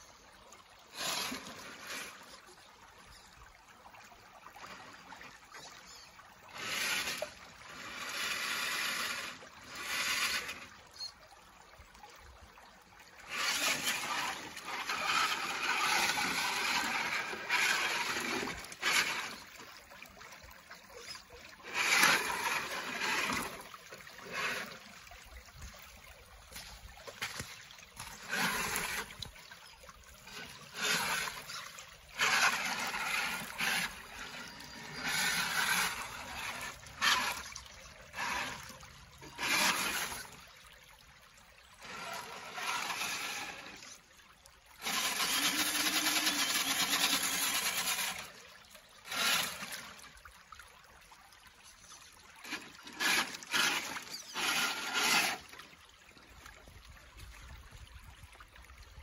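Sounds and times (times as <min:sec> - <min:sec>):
faint water trickle: 0:00.0 - 0:59.0
toy car wheels splashing water: 0:00.8 - 0:03.3, 0:04.1 - 0:11.6, 0:13.1 - 0:57.3.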